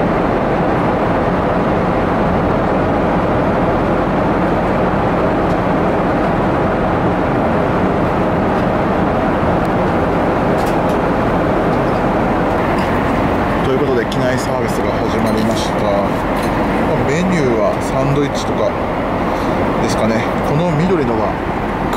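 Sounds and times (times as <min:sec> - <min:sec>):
airframe rumble: 0:00.0 - 0:21.9
jet engine roar: 0:00.0 - 0:21.9.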